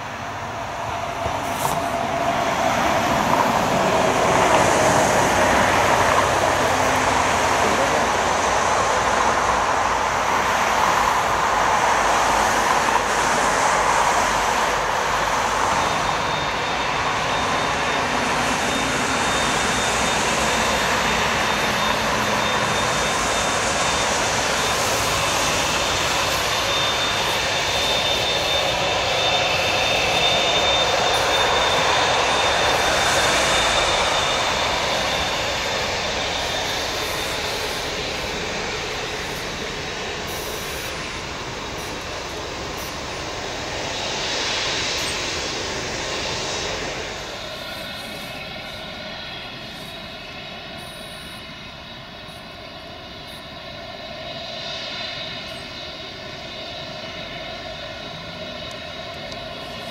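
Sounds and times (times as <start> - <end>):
jet engines rushing: 0.0 - 59.9
thin high engine whine: 0.0 - 59.9.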